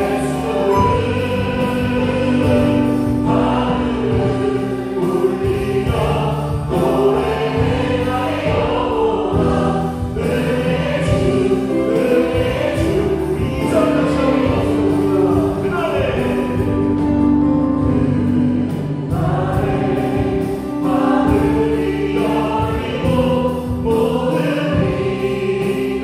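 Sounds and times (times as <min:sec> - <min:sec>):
bass guitar: 0:00.0 - 0:26.0
choir singing a hymn: 0:00.0 - 0:26.0
drums: 0:00.0 - 0:26.0
keyboard: 0:00.0 - 0:26.0.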